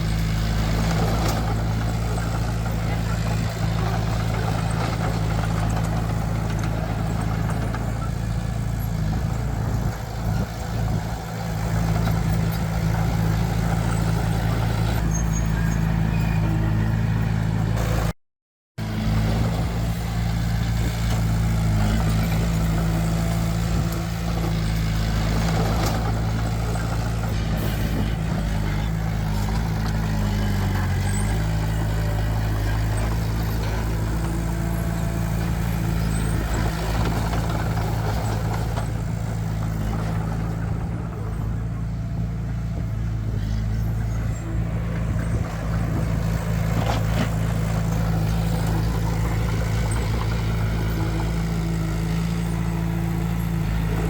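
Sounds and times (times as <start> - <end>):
large diesel engine running: 0.0 - 18.2, 18.8 - 54.0.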